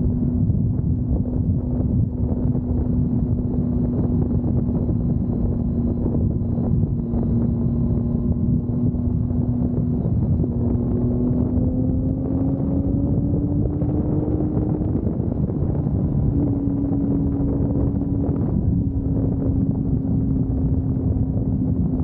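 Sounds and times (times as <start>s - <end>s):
vehicle engine humming: 0.0s - 22.0s
wind buffeting microphone: 0.0s - 22.0s.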